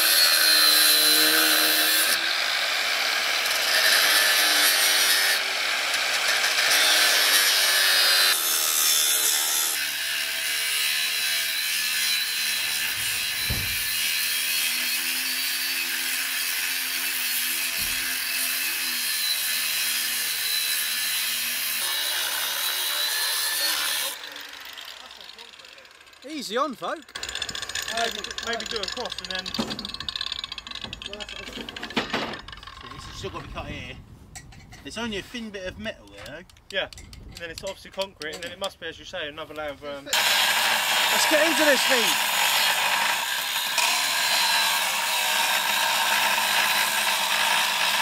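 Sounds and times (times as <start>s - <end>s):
angle grinder cutting steel: 0.0s - 33.1s, 40.1s - 48.0s.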